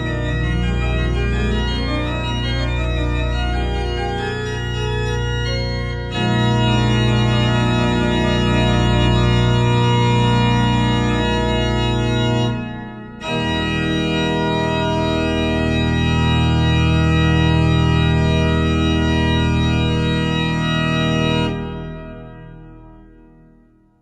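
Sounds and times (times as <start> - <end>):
organ sustained chords: 0.0 - 23.8.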